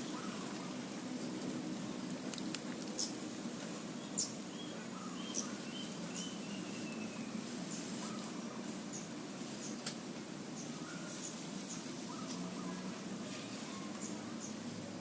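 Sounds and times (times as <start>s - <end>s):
birds chirping: 0.0s - 14.7s.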